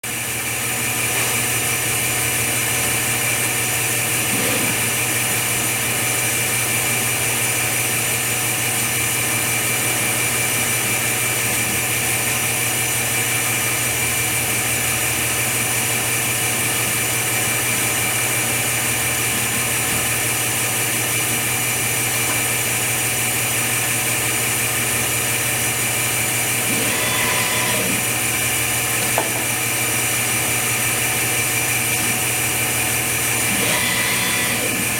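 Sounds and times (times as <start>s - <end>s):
machine humming and whining: 0.1s - 34.9s.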